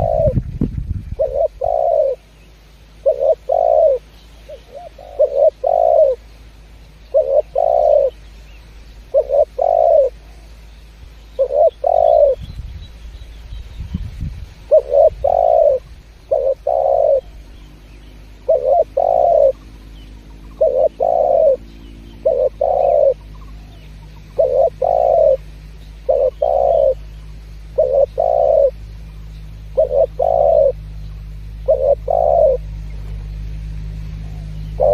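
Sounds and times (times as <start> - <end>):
dove cooing: 0.0 - 2.3, 3.0 - 6.4, 7.0 - 8.3, 9.1 - 10.6, 11.4 - 12.6, 14.7 - 34.9.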